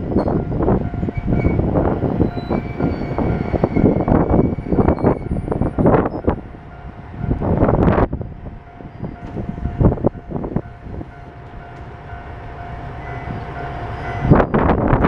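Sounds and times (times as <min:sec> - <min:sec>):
diesel railcar passing: 0:00.0 - 0:15.0.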